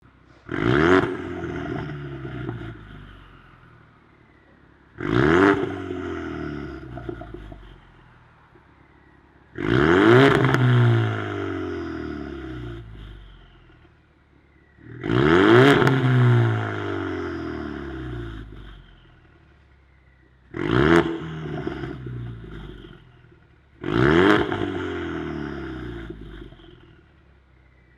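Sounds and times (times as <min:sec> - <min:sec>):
car engine revving: 0:00.3 - 0:27.9.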